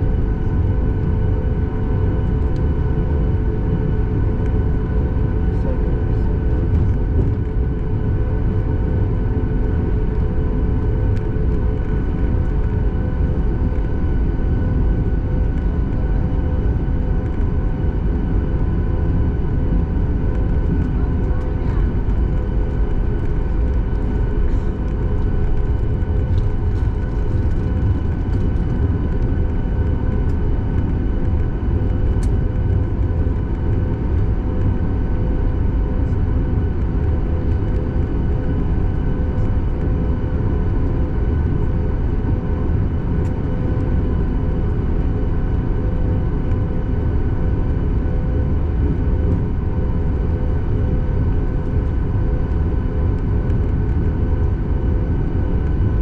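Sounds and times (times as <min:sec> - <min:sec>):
deep jet engine rumble: 0:00.0 - 0:56.0
engine whine: 0:00.0 - 0:56.0.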